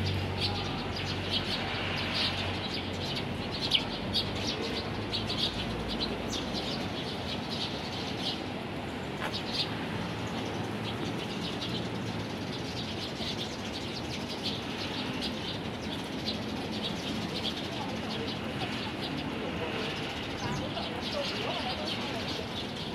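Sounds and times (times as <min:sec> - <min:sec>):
sparrows chirping: 0:00.0 - 0:22.9.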